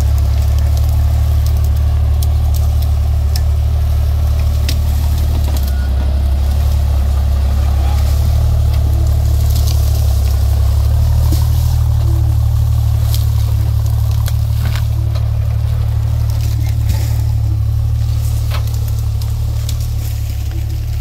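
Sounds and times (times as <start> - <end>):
engine low drone: 0.0 - 21.0.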